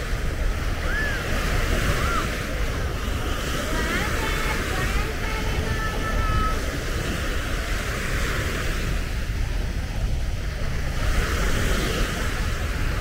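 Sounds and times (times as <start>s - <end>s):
surf hiss: 0.0s - 13.0s
wind rumble on microphone: 0.0s - 13.0s.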